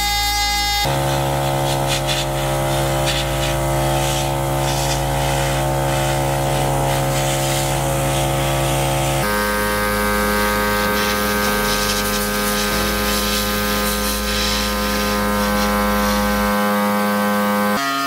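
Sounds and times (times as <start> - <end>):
compressor humming: 0.0 - 17.8
airbrush spraying hiss: 0.9 - 16.8.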